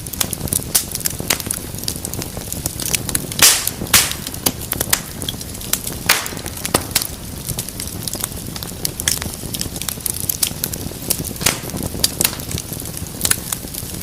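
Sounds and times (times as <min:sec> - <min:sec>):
fire popping and snapping: 0:00.0 - 0:14.0
wood fire crackling: 0:00.0 - 0:14.0.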